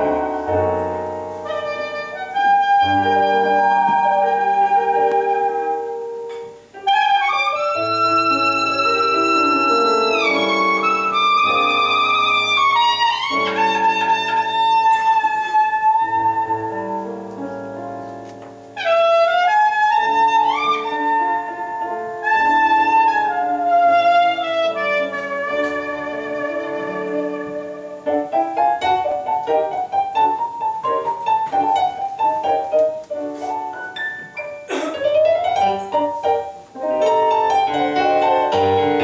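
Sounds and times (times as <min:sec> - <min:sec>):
clarinet melody: 0:00.0 - 0:39.0
piano accompaniment: 0:00.0 - 0:39.0.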